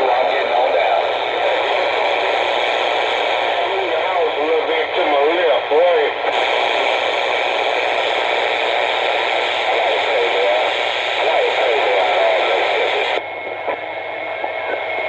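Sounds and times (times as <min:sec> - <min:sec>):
garbled radio transmission: 0:00.0 - 0:15.0
radio signal hiss: 0:00.0 - 0:15.0.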